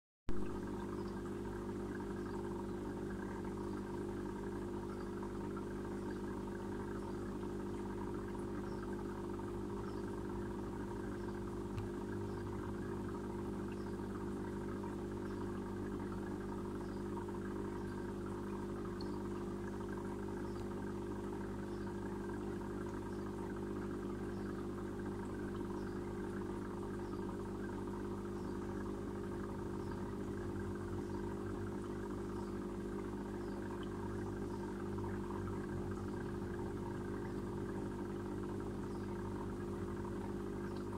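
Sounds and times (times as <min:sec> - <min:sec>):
aquarium equipment humming: 0:00.3 - 0:40.9.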